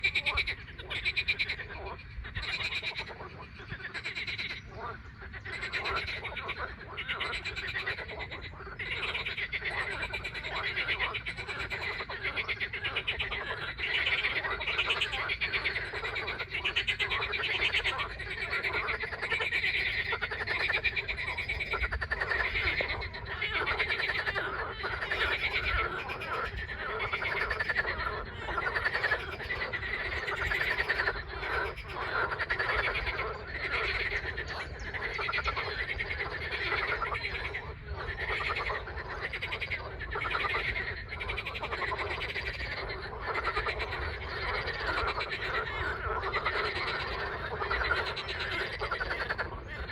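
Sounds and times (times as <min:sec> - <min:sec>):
chorus of frogs croaking: 0:00.0 - 0:49.9.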